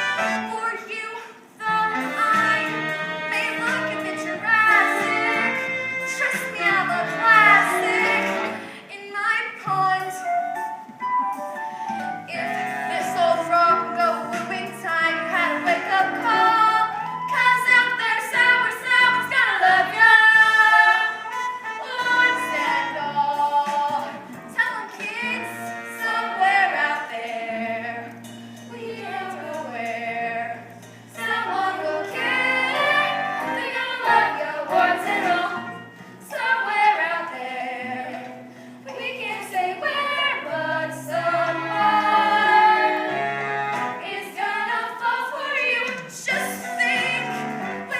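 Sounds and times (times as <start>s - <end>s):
instrumental accompaniment: 0.0s - 9.0s, 9.7s - 47.9s
young voices singing in chorus: 1.6s - 8.7s, 13.0s - 47.9s.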